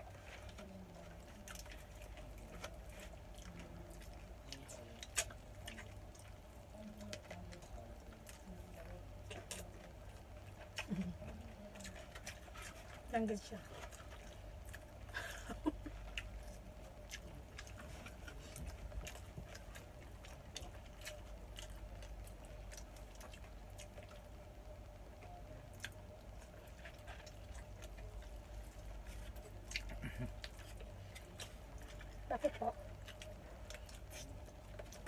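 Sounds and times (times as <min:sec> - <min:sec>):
steady low hum: 0:00.0 - 0:35.0
person chewing: 0:00.1 - 0:13.1, 0:13.7 - 0:24.3, 0:25.2 - 0:35.0.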